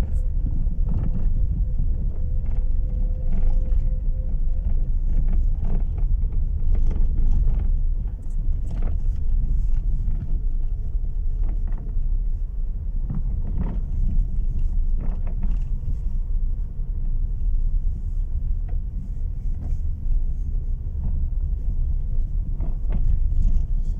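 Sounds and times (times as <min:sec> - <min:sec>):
low road rumble: 0:00.0 - 0:23.9.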